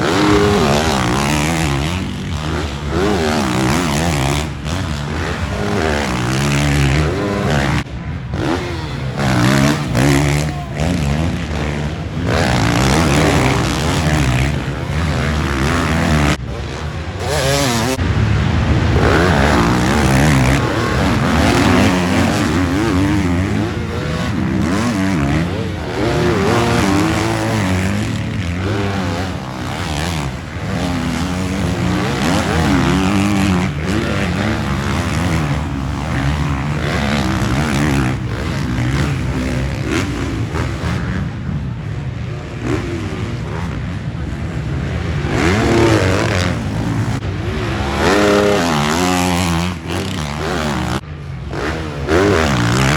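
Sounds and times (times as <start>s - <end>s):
motocross bikes revving: 0.0s - 52.9s.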